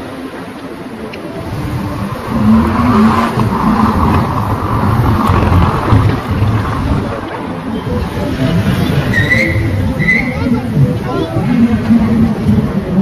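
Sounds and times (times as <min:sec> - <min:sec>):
steady traffic roar: 0:00.0 - 0:13.0.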